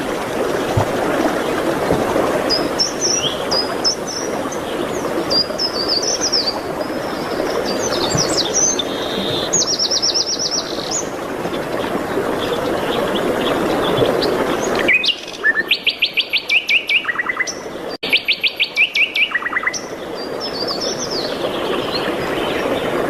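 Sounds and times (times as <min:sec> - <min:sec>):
songbirds chirping: 0:01.2 - 0:23.0.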